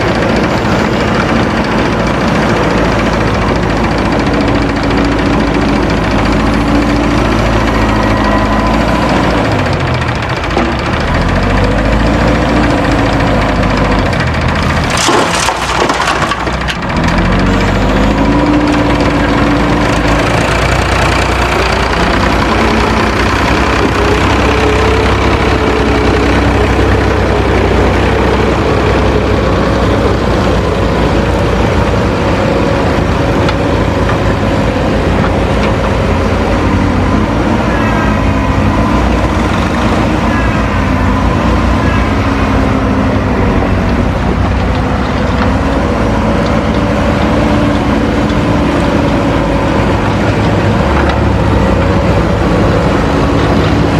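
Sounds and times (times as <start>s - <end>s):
heavy diesel machinery engines: 0.0s - 53.9s.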